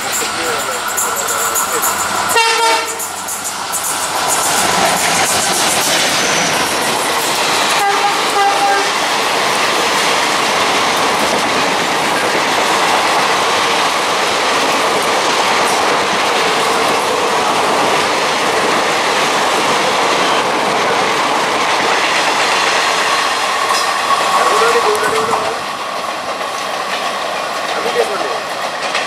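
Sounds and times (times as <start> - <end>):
train wheels rushing over rails: 0.0 - 29.0.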